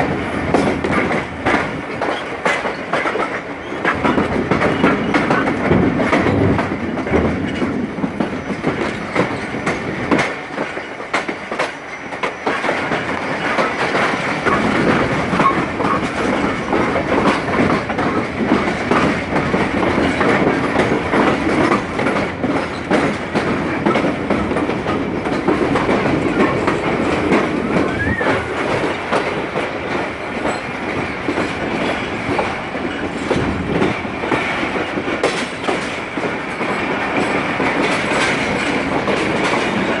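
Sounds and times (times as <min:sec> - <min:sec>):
train wheels rumbling on rail: 0:00.0 - 0:40.0
wheels clickety-clack over joints: 0:00.0 - 0:40.0.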